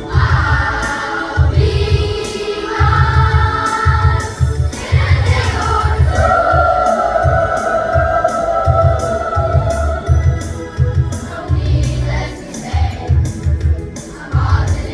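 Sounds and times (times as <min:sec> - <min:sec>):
backing track with bass beat: 0:00.0 - 0:14.9
children's choir singing: 0:00.0 - 0:14.9.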